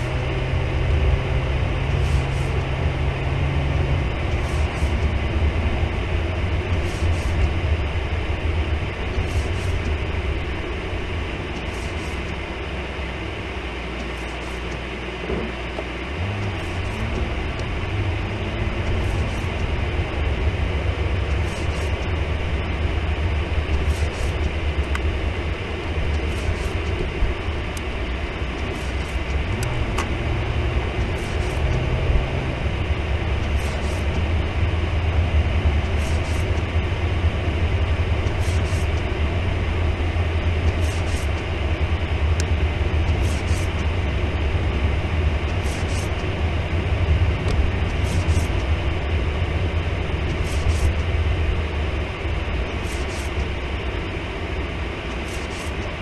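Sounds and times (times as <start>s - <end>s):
car engine and tyres rumbling: 0.0s - 56.0s
windshield wipers swishing: 0.0s - 56.0s.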